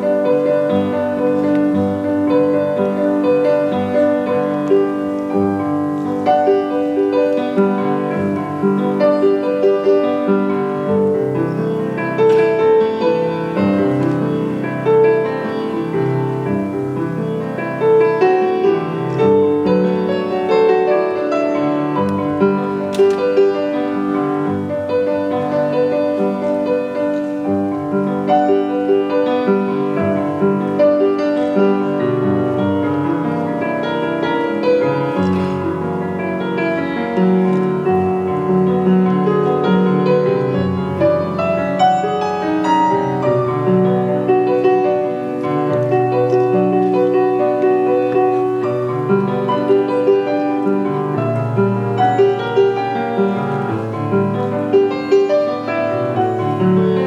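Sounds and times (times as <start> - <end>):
piano piece: 0.0 - 57.0.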